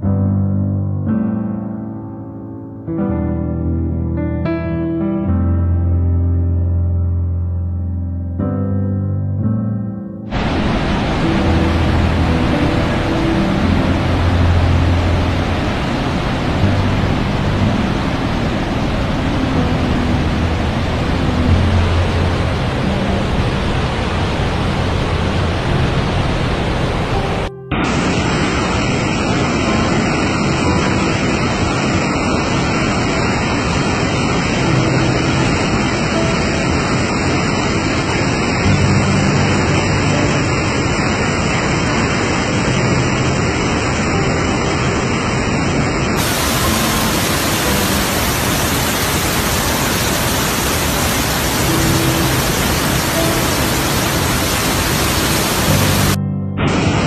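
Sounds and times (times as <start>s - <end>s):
waterfall roaring: 10.3s - 57.0s.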